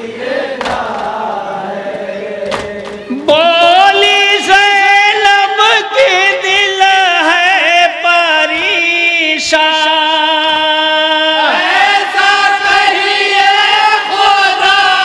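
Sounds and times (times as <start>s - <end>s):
men chanting into microphones: 0.0s - 15.0s.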